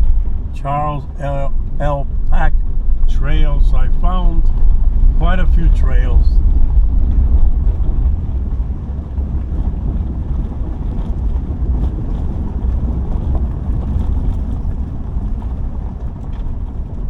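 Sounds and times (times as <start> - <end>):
car driving on gravel road: 0.0 - 17.0
gravel ticks: 0.0 - 17.0.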